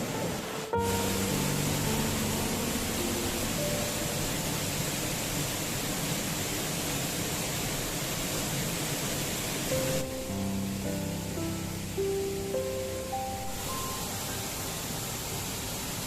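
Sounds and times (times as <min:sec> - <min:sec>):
faint held musical notes: 0:00.0 - 0:06.6, 0:09.7 - 0:16.0
waterfall rushing: 0:00.0 - 0:16.0.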